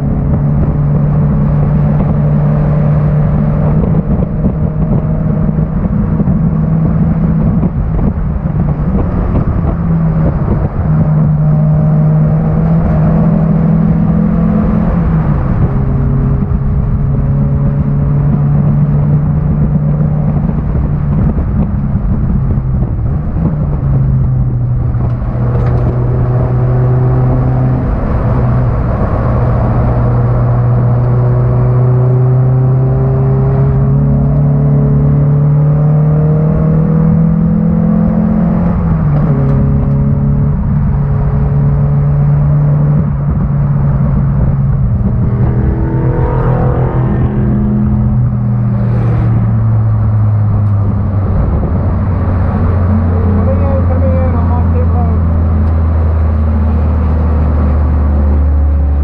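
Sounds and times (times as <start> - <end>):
car engine running hard: 0.0 - 59.0
road and wind noise: 0.0 - 59.0.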